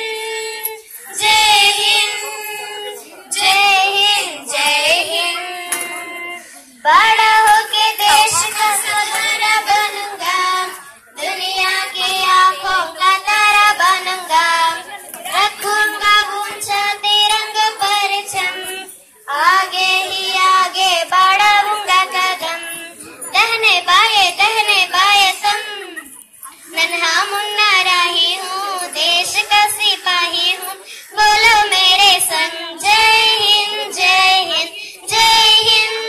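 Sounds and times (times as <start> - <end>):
girls singing: 0.0 - 36.0.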